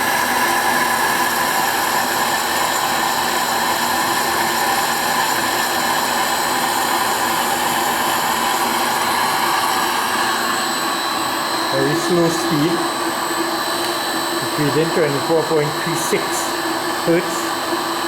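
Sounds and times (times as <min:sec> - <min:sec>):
lathe motor whine: 0:00.0 - 0:18.0.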